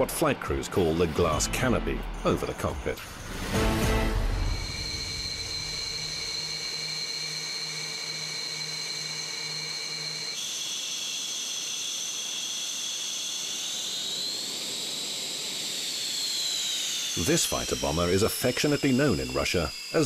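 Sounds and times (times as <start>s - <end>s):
jet engine turbine whine: 0.0s - 20.0s.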